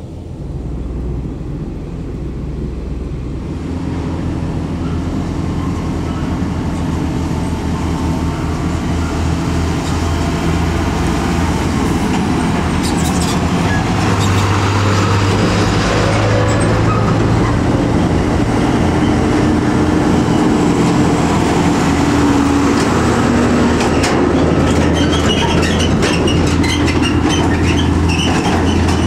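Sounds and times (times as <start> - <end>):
truck diesel engines running: 0.0 - 29.0.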